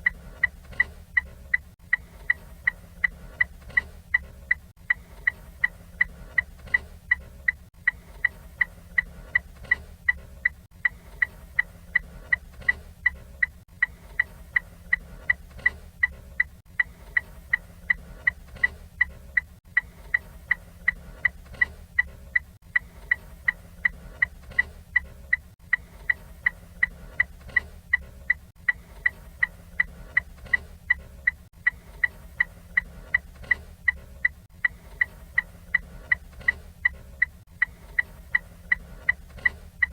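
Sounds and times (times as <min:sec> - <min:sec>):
car turn signal ticking: 0:00.0 - 0:39.9.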